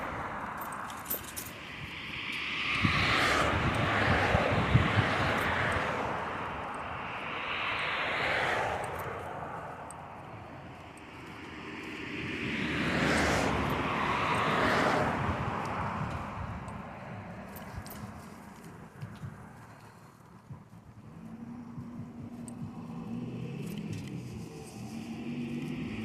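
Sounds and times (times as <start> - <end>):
vehicles passing on road: 0.0 - 26.0.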